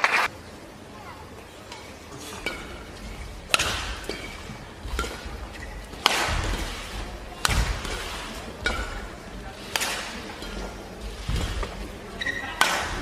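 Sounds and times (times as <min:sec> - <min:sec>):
racket hitting shuttlecock: 0:02.3 - 0:13.0.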